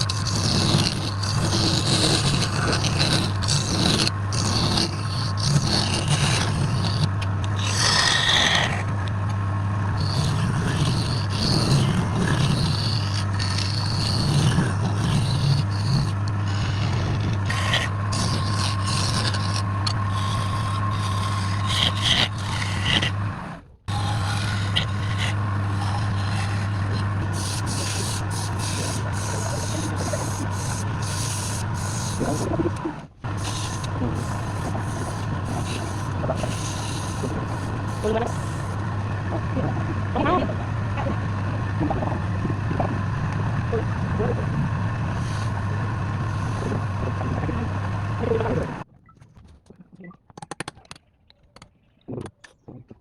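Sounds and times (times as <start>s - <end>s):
tool scraping spinning wood: 0.0s - 48.8s
wood lathe motor hum: 0.0s - 48.8s.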